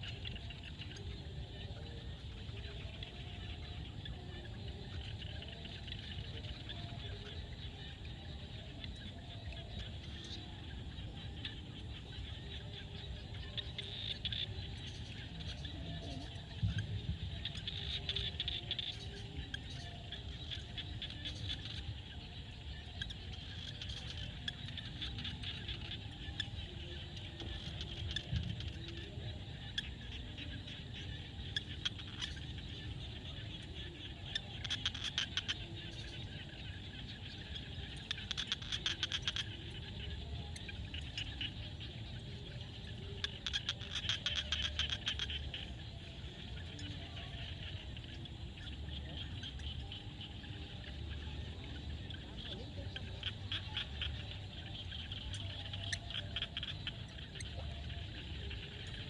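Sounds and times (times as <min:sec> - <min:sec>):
frogs calling: 0:00.0 - 0:59.0.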